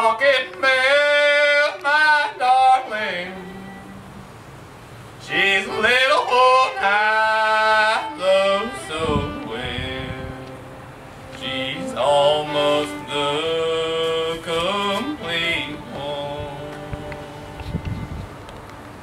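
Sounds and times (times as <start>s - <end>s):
person singing long sliding notes: 0.0s - 4.3s, 5.2s - 18.2s.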